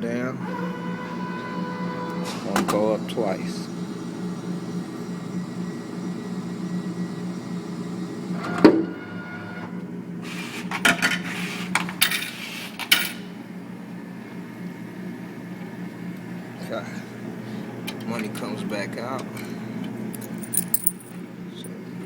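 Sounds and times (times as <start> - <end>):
vending machine motor humming: 0.0 - 22.0.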